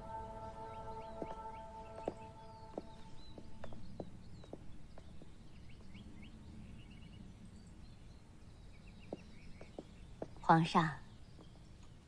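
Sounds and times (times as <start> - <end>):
faint small birds chirping: 0.0 - 12.0.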